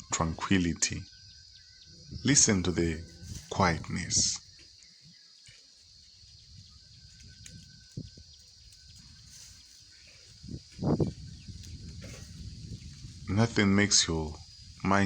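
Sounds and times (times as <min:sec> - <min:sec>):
high-pitched insect hum: 0:00.0 - 0:15.0.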